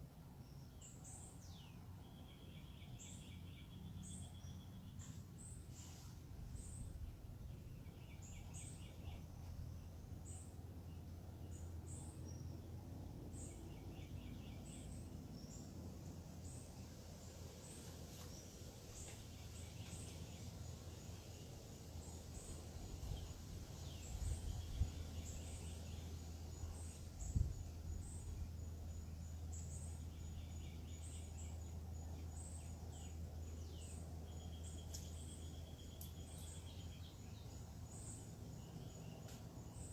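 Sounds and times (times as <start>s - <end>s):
birds chirping: 0.4s - 39.9s.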